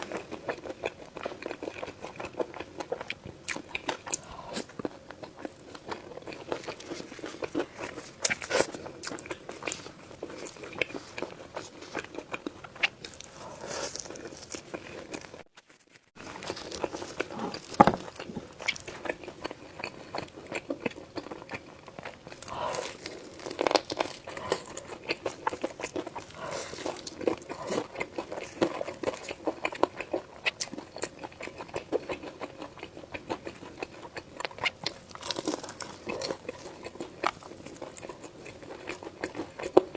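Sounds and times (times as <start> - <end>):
crunchy bites and wet chewing: 0.0 - 15.5, 16.2 - 39.9.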